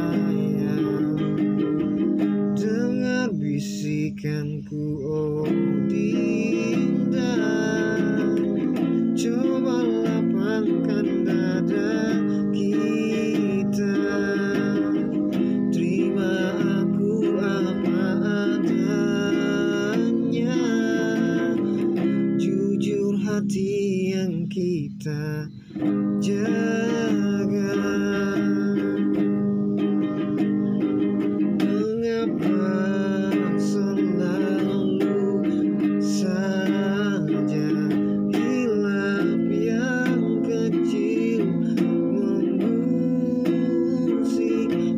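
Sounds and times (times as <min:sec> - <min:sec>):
man singing slow ballad: 0:00.0 - 0:29.9, 0:31.6 - 0:44.9
classical guitar strummed chords: 0:00.0 - 0:44.9.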